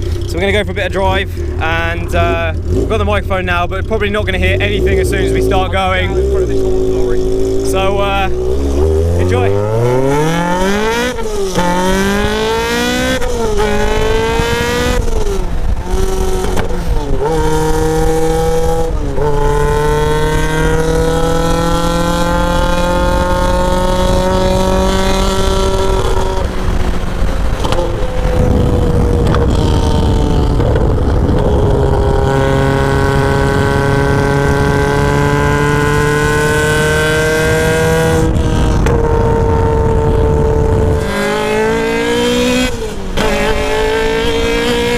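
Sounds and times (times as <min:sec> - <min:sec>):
car engine accelerating hard: 0:00.0 - 0:44.9
wind rushing: 0:04.6 - 0:44.9.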